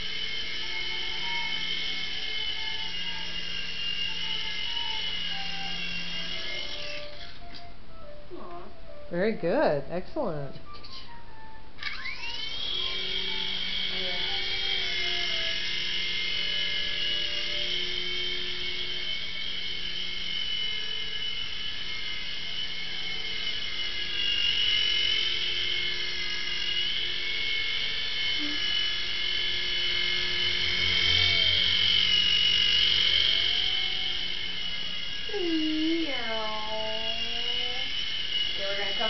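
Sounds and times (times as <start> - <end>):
rc helicopter rotors whining: 0.0 - 7.9, 11.8 - 39.0.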